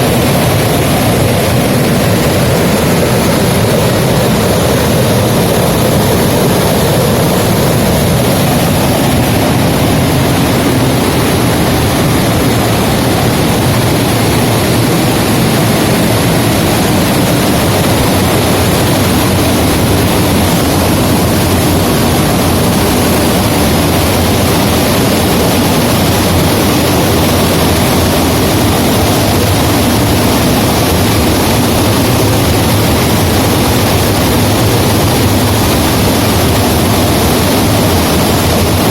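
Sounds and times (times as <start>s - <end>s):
water rushing over spillway: 0.0s - 38.9s.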